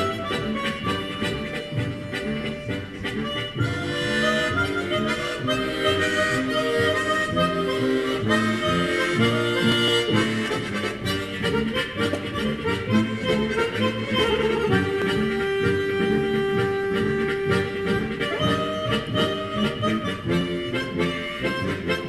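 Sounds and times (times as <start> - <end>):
harmonica trio playing: 0.0 - 22.0.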